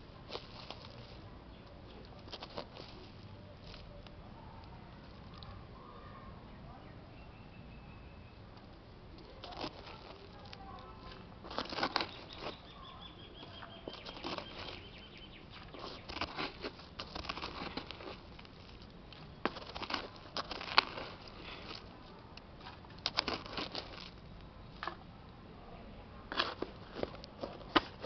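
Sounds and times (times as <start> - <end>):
hand digging in soil: 0.0 - 5.6, 9.1 - 25.0, 26.3 - 28.0.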